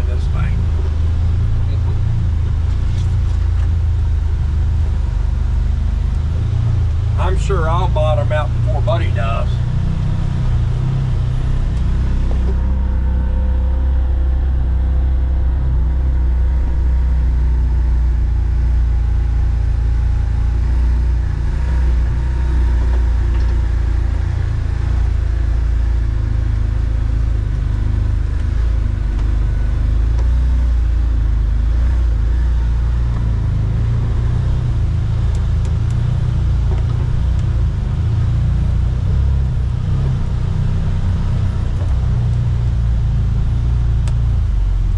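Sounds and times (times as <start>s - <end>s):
vehicle engine rumble: 0.0s - 44.9s.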